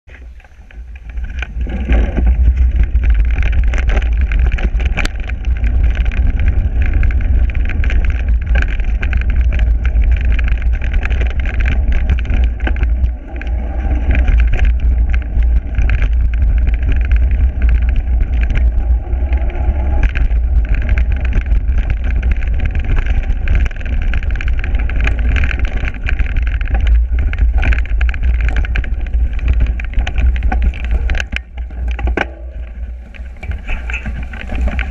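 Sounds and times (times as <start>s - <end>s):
wind rumble on microphone: 0.0s - 34.9s
bike clattering over bumps: 0.1s - 34.9s
bike tyre noise: 0.1s - 34.9s.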